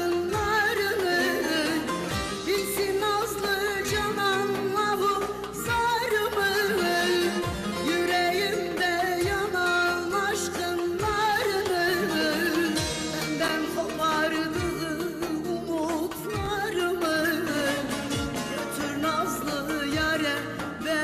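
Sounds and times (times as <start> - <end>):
ornamented folk melody: 0.0 - 21.0.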